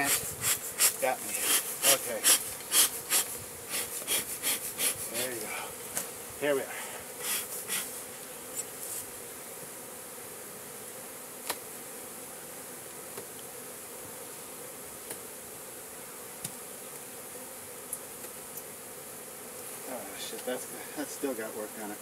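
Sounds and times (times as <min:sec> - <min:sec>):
honey bees buzzing: 0:00.0 - 0:22.0.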